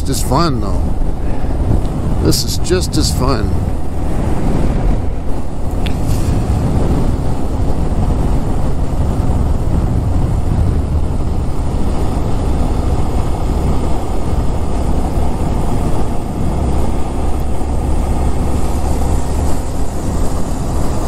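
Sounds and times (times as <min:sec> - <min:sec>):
motorcycle engine cruising: 0:00.0 - 0:21.0
wind rushing over microphone: 0:00.0 - 0:21.0.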